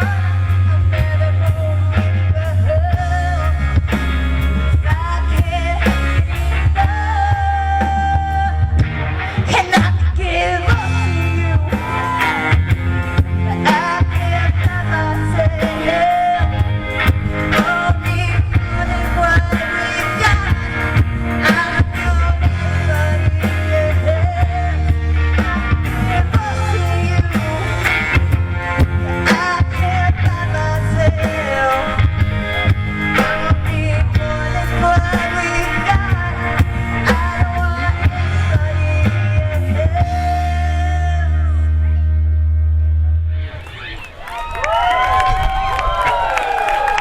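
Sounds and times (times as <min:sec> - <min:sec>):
person singing: 0:00.0 - 0:42.0
heavy bass line: 0:00.0 - 0:44.0
guitar: 0:00.0 - 0:47.0.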